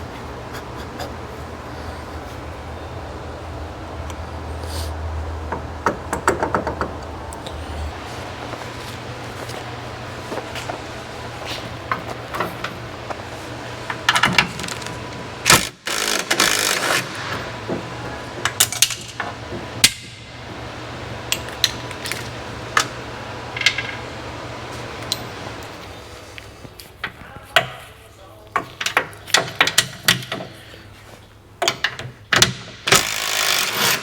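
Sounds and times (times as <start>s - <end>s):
steady low hum: 0.0s - 28.5s.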